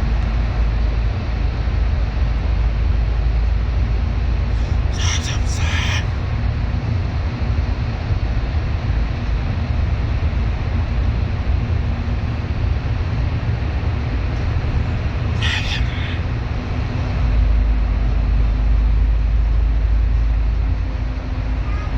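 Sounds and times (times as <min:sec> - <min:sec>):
bus engine and road rumble: 0:00.0 - 0:21.9.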